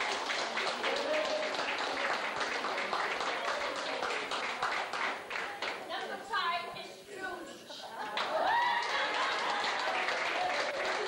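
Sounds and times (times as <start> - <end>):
people clapping and applauding: 0.0 - 6.2, 8.0 - 11.0.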